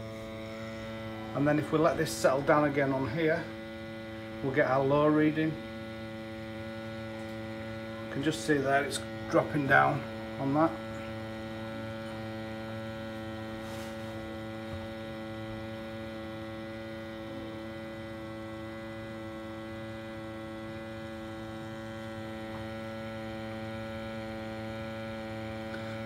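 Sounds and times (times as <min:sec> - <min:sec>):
gas boiler humming: 0:00.0 - 0:26.0
sampling pump running: 0:00.0 - 0:26.0.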